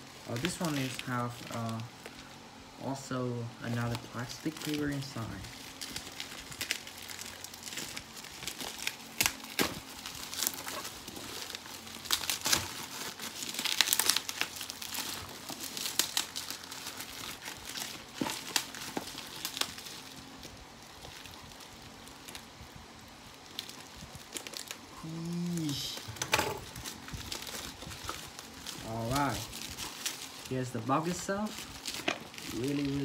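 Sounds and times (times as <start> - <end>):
plastic wrapper crinkling and tearing: 0.0 - 33.0.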